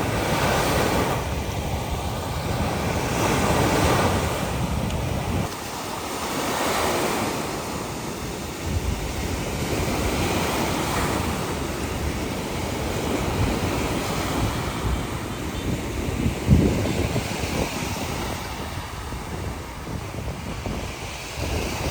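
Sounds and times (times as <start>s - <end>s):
sea waves washing ashore: 0.0s - 21.9s
wind buffeting microphone: 0.0s - 21.9s.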